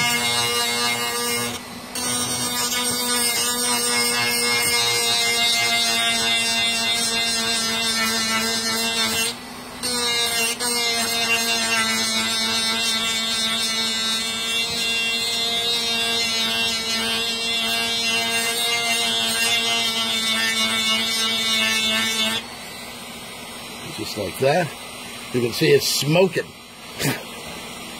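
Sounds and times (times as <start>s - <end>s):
rotary tool grinding steel: 0.0s - 22.9s.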